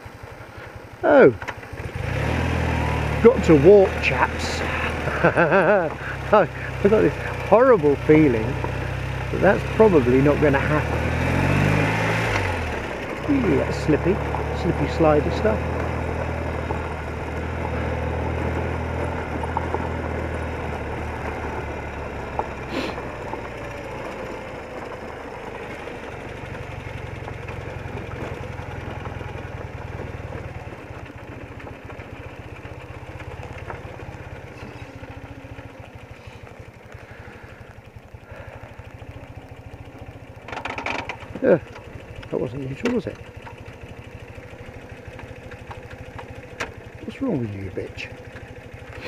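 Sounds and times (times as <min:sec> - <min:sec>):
motorcycle engine at low revs: 0:00.0 - 0:49.0
tyres on gravel: 0:00.0 - 0:49.0.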